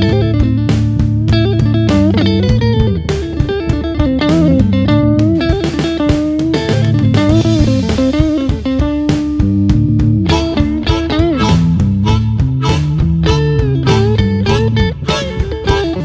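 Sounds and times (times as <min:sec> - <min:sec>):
bass: 0:00.0 - 0:16.0
electric guitar music: 0:00.0 - 0:16.0.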